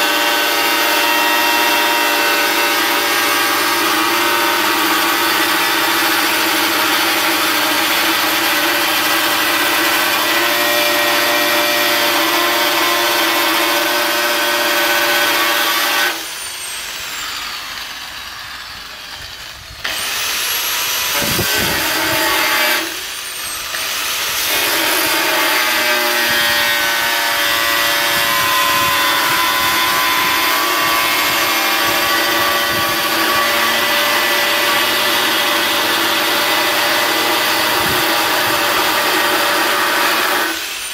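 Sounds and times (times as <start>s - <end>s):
angle grinder cutting sheet metal: 0.0s - 40.9s.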